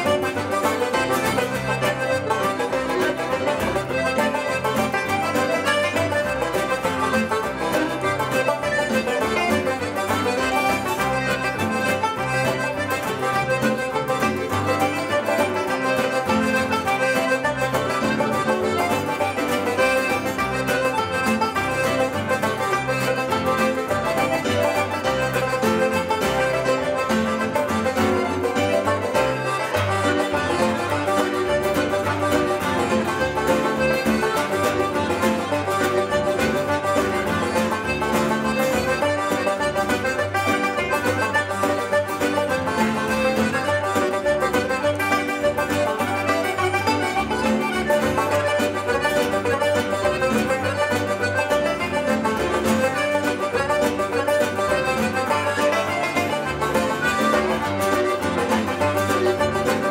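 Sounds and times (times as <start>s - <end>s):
accordion: 0.0s - 59.9s
acoustic guitar: 0.0s - 59.9s
banjo: 0.0s - 59.9s
keyboard: 0.0s - 59.9s.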